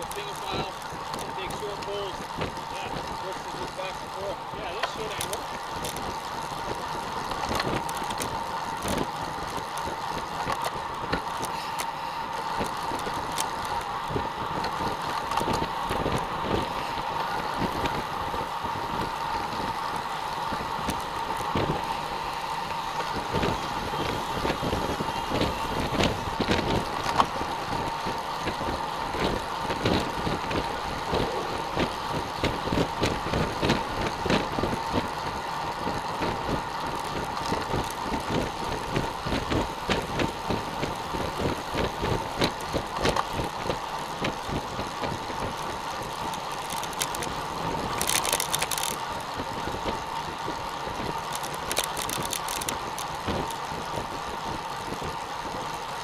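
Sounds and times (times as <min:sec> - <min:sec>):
bicycle tyres rolling on asphalt: 0:00.0 - 0:56.0
constant hum: 0:00.0 - 0:56.0.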